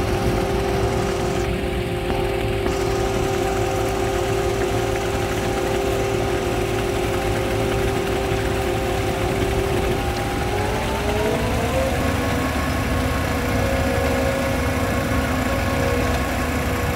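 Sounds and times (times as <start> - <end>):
concrete mixer low rumble: 0.0 - 16.9
steady mechanical whine: 0.0 - 16.9.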